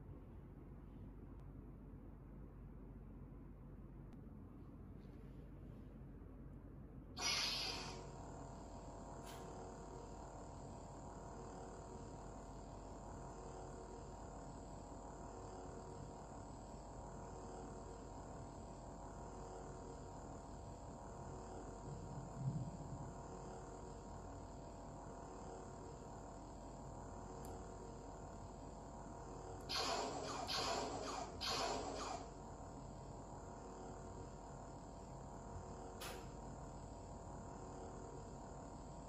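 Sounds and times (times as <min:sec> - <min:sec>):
electronic hum: 0:07.2 - 0:39.0.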